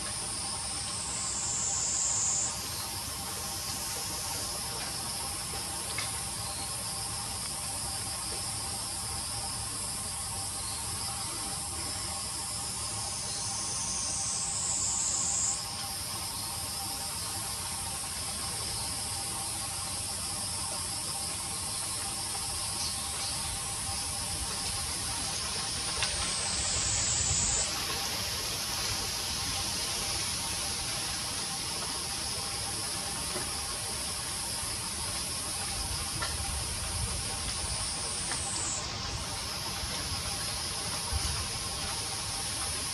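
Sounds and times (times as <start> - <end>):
insects buzzing chorus: 0.0 - 42.9.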